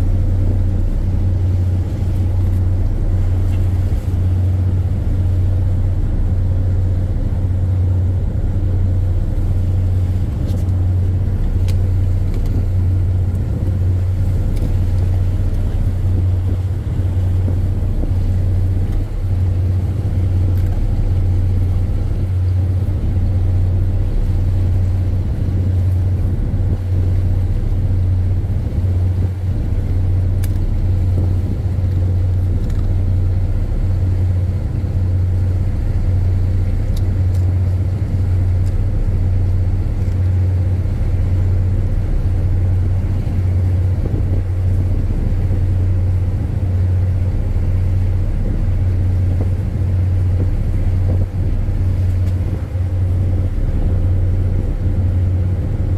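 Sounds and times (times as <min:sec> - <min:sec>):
ship engine throbbing: 0:00.0 - 0:55.9.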